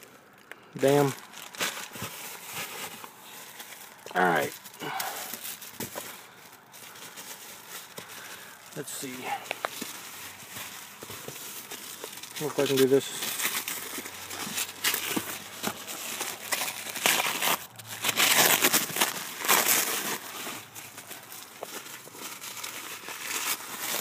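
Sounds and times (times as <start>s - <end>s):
bubble wrap rustling: 0.0s - 24.0s
tissue paper crinkling: 0.8s - 24.0s.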